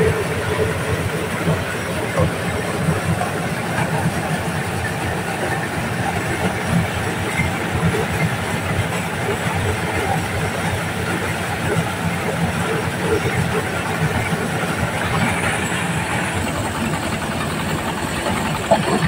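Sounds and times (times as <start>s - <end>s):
corn sheller mechanical clatter: 0.0s - 19.0s
diesel engine drone: 0.0s - 19.0s.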